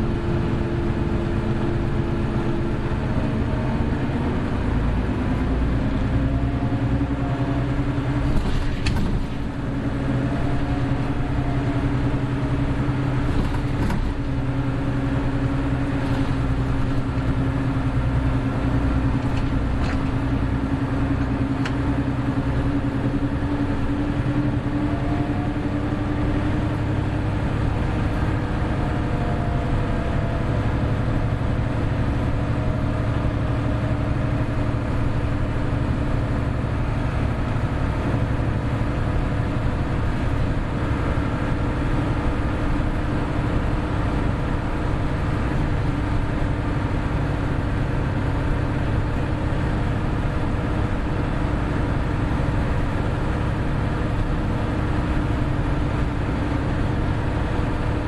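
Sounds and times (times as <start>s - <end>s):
bus engine hum: 0.0s - 58.0s.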